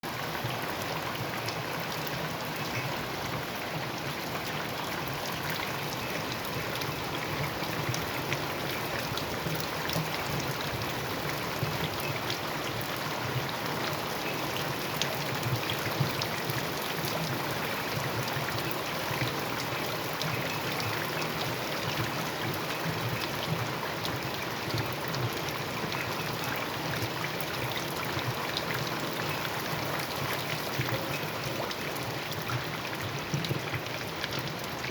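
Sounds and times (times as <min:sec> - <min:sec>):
rain drops ticking: 0:00.1 - 0:34.9.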